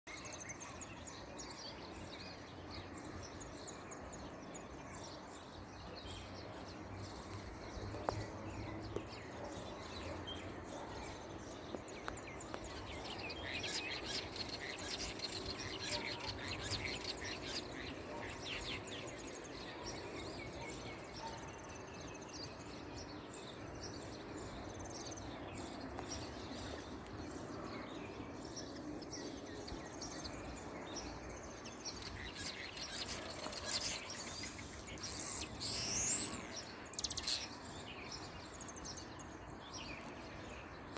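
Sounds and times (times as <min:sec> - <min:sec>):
songbirds chirping: 0:00.1 - 0:40.9.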